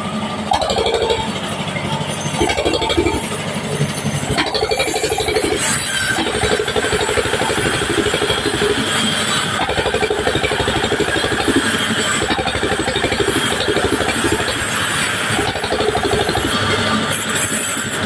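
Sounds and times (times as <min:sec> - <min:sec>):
band saw cutting wood: 0:00.0 - 0:18.0.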